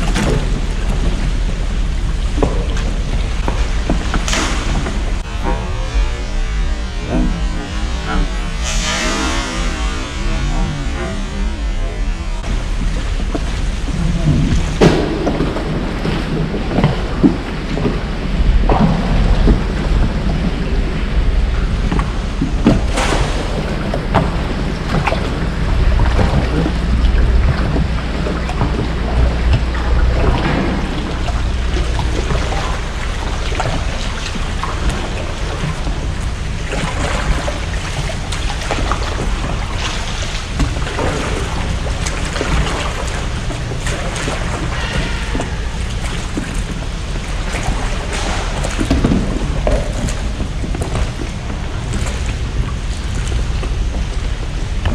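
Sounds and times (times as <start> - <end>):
water splashes: 0.0 - 54.9
wind rumbling on microphone: 0.0 - 54.9.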